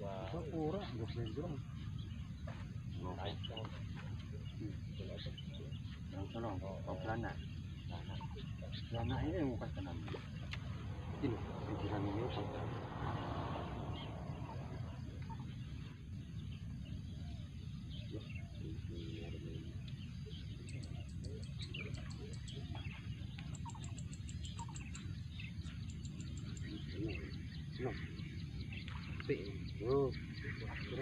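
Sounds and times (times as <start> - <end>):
birds chirping: 0.0 - 31.0
steady low rumble: 0.0 - 31.0.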